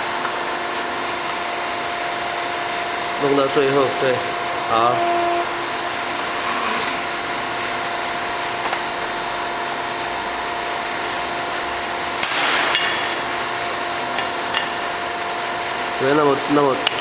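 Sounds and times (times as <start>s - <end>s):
tube bending machine humming: 0.0s - 17.0s.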